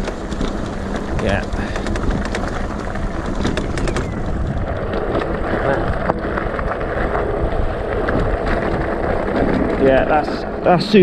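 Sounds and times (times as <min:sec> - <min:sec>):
bike rattling and clicking: 0:00.0 - 0:11.0
bike tyres rumbling on gravel: 0:00.0 - 0:11.0.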